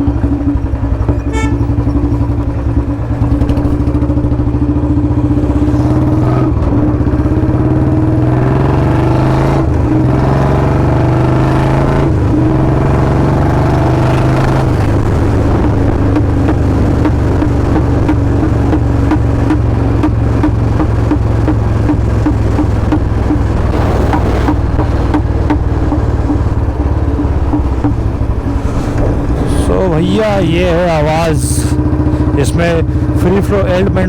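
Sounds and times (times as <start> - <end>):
motorcycle exhaust thumping: 0.0 - 34.0.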